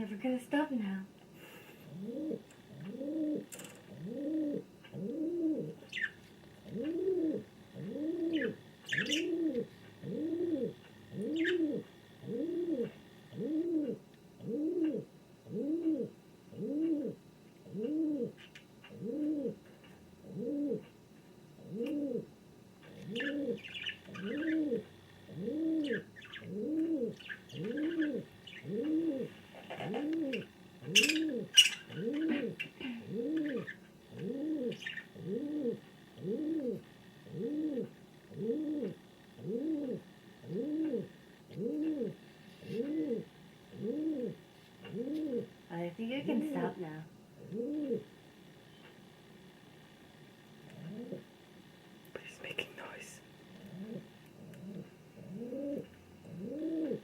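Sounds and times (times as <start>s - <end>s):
pigeon cooing: 1.4s - 20.9s, 21.6s - 48.9s, 50.7s - 51.4s, 52.4s - 57.0s.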